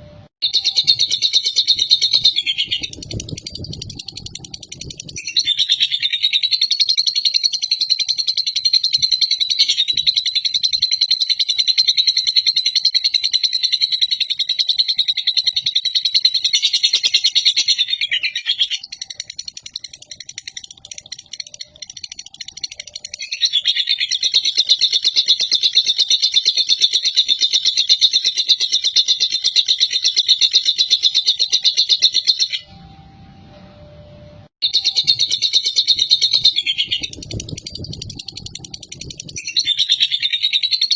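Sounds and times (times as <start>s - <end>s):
lovebird chattering trill: 0.4s - 32.6s, 34.6s - 40.9s.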